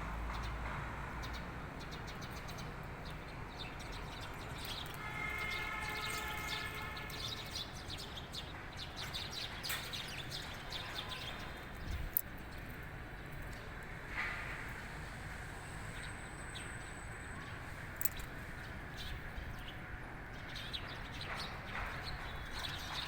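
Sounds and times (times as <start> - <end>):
small birds chirping: 1.2 - 14.2, 15.0 - 23.0.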